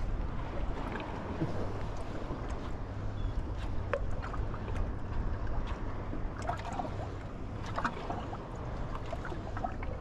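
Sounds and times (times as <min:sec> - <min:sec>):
steady low rumble: 0:00.0 - 0:10.0
waves slapping boat hull: 0:00.0 - 0:10.0.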